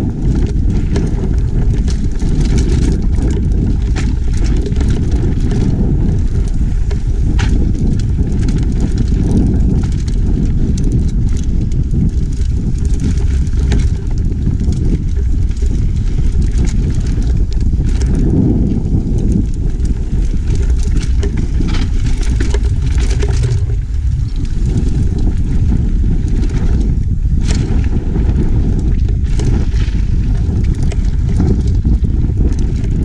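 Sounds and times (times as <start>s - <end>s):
bike rattling clicks: 0.0s - 33.0s
tyres rumbling on dirt trail: 0.0s - 33.0s.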